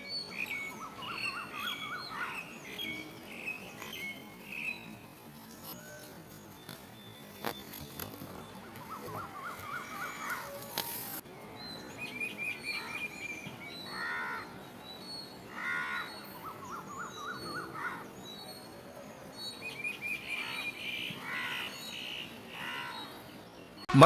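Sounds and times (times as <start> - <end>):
harsh bird calls: 0.0 - 5.0, 6.6 - 24.0
birds warbling and chirping: 0.0 - 24.0.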